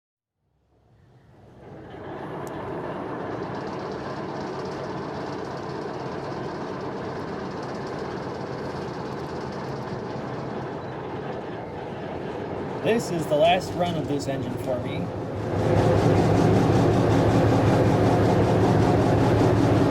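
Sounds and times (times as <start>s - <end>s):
model train rolling rumble: 1.3s - 19.9s.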